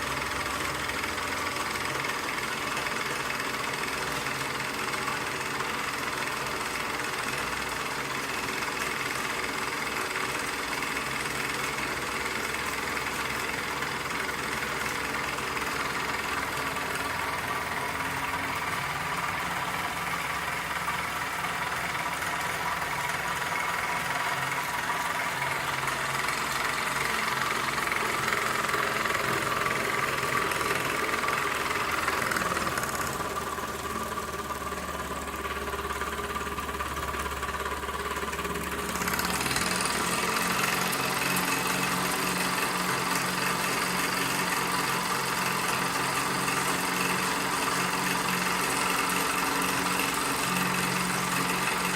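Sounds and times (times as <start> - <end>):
toy steam engine running: 0.0 - 51.9.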